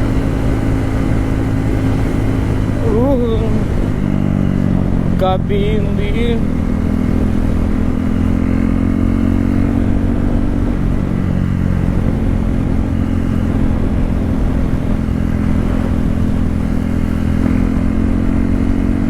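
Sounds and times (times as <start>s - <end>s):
loud motorcycle engine exhaust: 0.0s - 19.0s.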